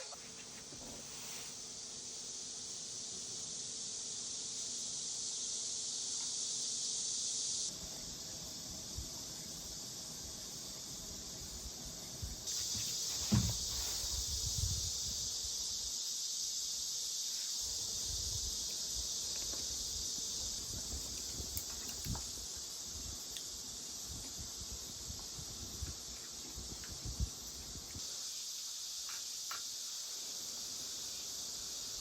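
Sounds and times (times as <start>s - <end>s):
insects chorus: 0.0s - 32.0s.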